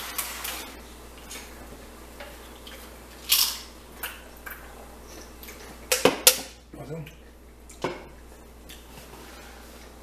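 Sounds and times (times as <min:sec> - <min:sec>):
eating and drinking sounds: 0:00.0 - 0:10.0.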